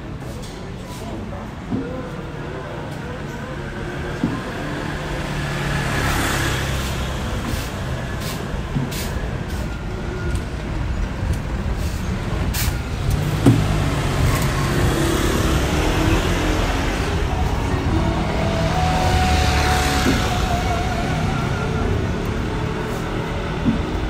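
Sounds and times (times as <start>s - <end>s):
heavy vehicle engine drone: 0.0s - 24.0s.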